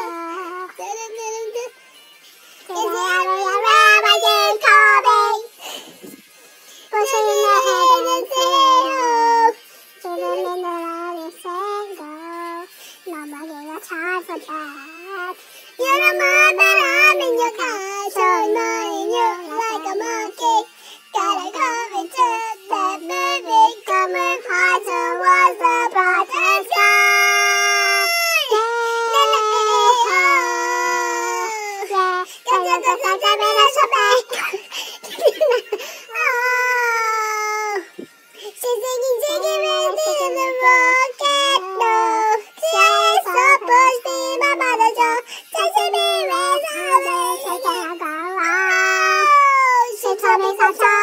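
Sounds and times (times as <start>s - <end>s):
person singing high-pitched melody: 0.0s - 1.8s, 2.6s - 51.0s.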